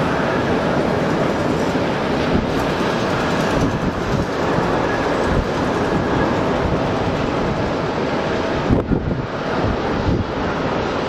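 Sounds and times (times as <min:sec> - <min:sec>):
distant jet engine noise: 0:00.0 - 0:11.0
wind on microphone: 0:00.0 - 0:11.0.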